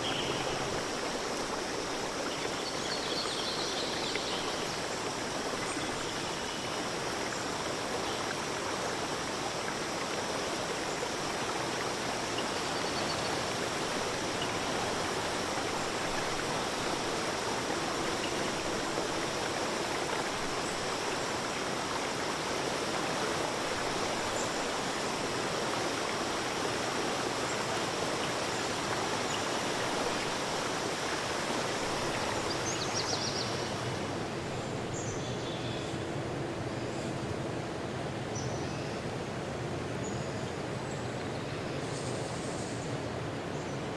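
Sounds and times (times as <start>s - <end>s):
stream rushing: 0.0s - 35.4s.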